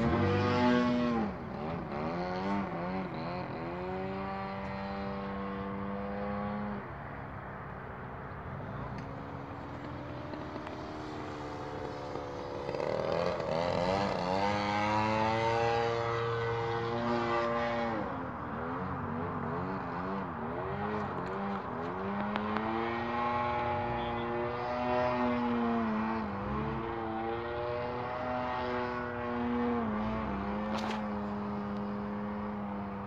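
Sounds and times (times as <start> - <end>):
model airplane engine and propeller: 0.0 - 33.0.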